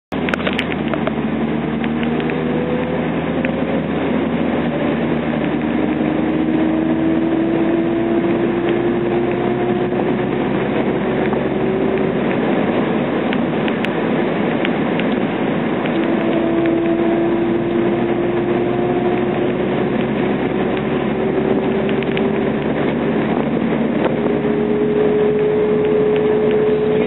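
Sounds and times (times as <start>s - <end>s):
car driving with road noise: 0.1s - 27.0s
thin drivetrain whine: 0.1s - 27.0s.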